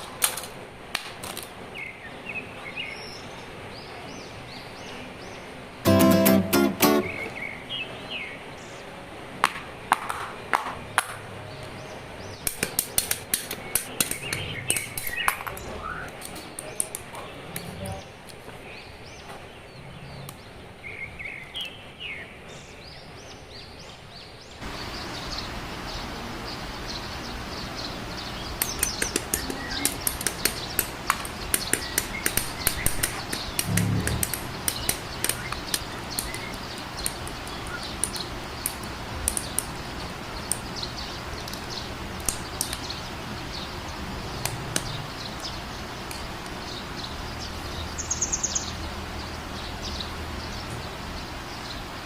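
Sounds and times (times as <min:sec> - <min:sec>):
birds chirping: 0:01.7 - 0:08.9, 0:11.5 - 0:52.0.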